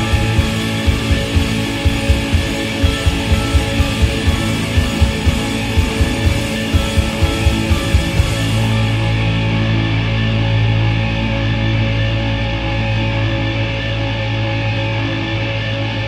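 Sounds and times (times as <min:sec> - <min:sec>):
guitar music with low beat: 0:00.0 - 0:16.0.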